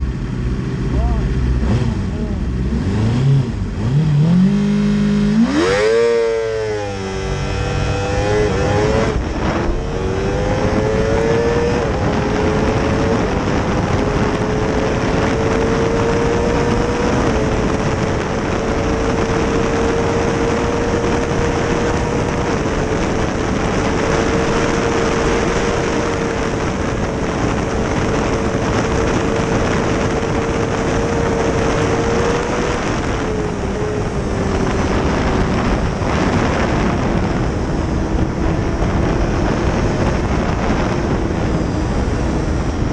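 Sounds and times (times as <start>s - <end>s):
motorcycle engine at high revs: 0.0s - 42.9s
wind rushing: 0.0s - 42.9s.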